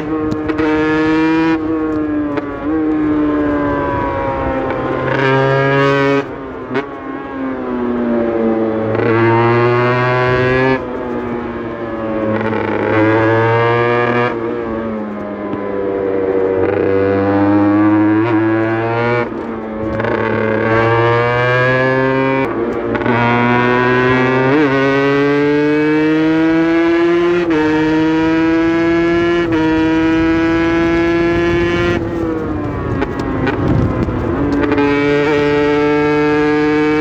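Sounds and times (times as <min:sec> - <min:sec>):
gear changes: 0:00.0 - 0:37.0
two-stroke motorcycle engine: 0:00.0 - 0:37.0.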